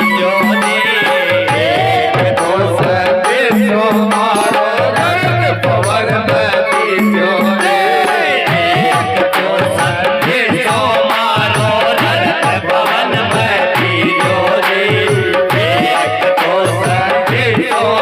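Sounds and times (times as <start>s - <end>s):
folk song on drum and organ: 0.0s - 18.0s
person singing: 0.0s - 18.0s.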